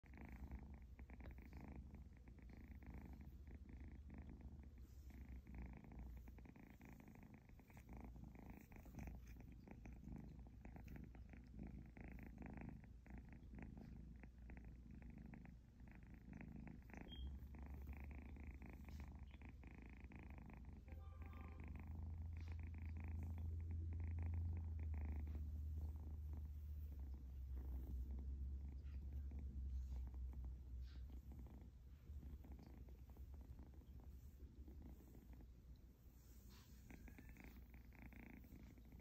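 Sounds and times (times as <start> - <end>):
kitten purring: 0.0 - 39.0.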